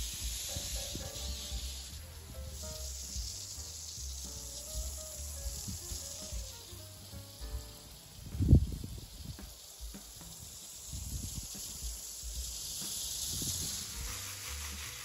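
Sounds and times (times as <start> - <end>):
background music with bass line: 0.0 - 15.0
hose nozzle spraying water: 0.0 - 15.0.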